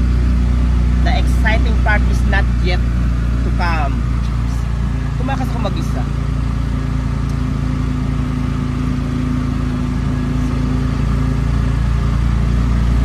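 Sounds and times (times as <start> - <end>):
road noise: 0.0 - 13.0
small motorcycle engine running: 0.0 - 13.0.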